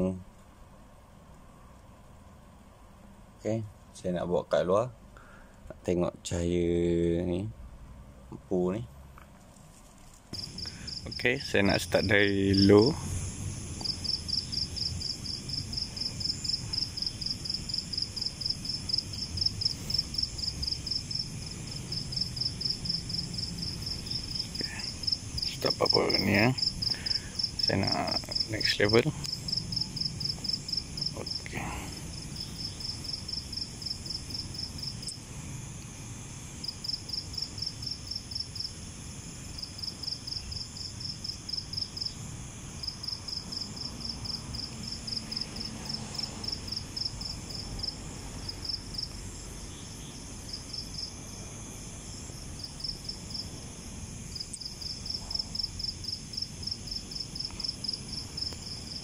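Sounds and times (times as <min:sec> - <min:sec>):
crickets chirping: 0:06.6 - 0:59.0.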